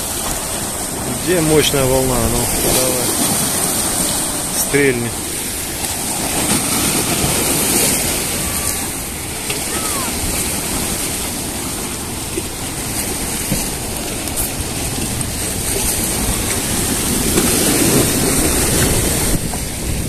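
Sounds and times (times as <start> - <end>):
waves splashing against rocks: 0.0 - 20.0
wind buffeting microphone: 0.0 - 20.0.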